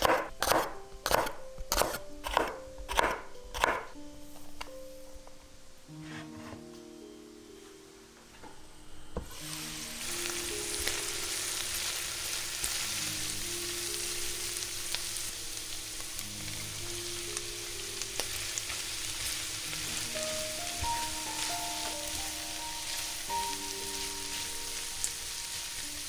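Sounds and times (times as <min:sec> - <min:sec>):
soft music: 0:00.0 - 0:26.0
crackling hiss: 0:04.0 - 0:26.0.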